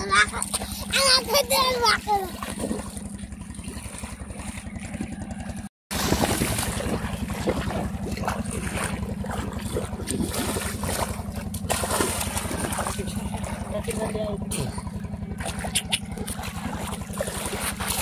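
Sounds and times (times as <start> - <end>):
low engine-like drone: 0.0 - 18.0
river water splashing: 0.0 - 18.0.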